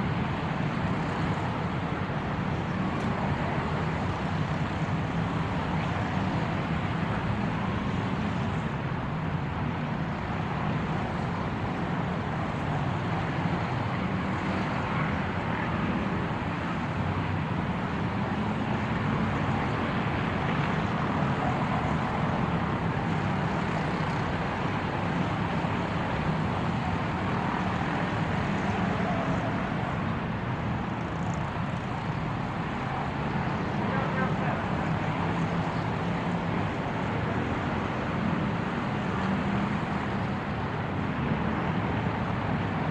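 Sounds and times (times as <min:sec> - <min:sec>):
car engine driving steadily: 0:00.0 - 0:42.9.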